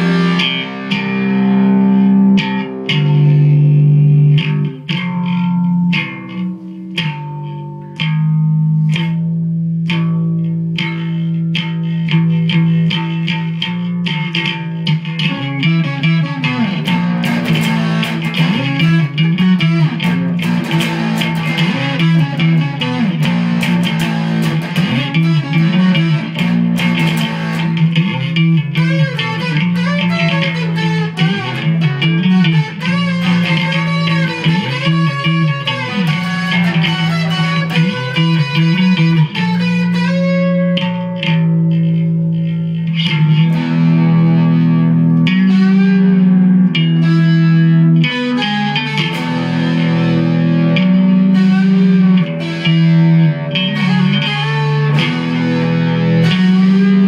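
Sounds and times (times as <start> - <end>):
plucked guitar with bending notes: 0.0 - 57.0.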